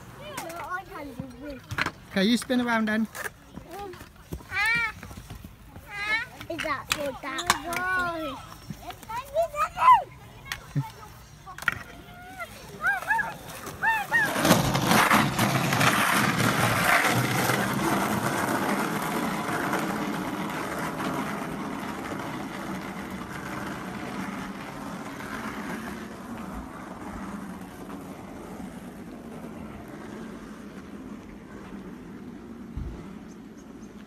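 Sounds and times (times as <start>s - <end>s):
skateboard wheels rolling on tarmac: 0.0s - 34.0s.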